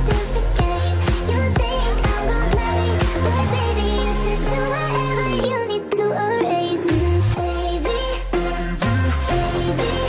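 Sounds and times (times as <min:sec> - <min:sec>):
electronic music with synth and bass: 0:00.0 - 0:10.0.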